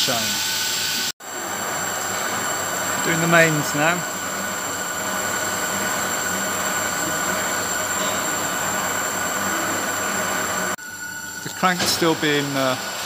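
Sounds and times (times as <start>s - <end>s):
lathe whirring with high whine: 0.0s - 13.0s.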